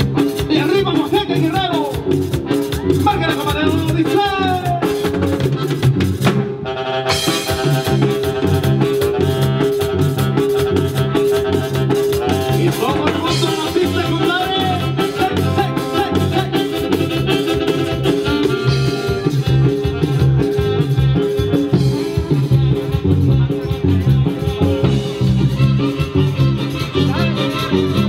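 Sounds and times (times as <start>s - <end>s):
accordion: 0.0s - 28.0s
bass guitar: 0.0s - 28.0s
drum kit beat: 0.0s - 28.0s
keyboards: 0.0s - 28.0s.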